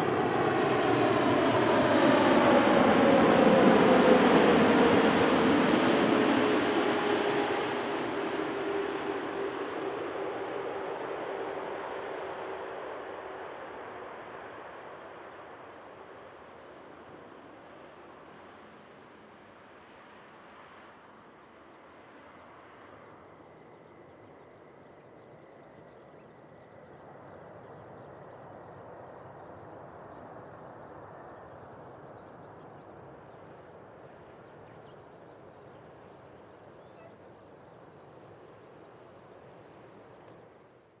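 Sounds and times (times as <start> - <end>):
distant jet engine rumble: 0.0 - 41.0
faint high jet whine: 0.0 - 41.0.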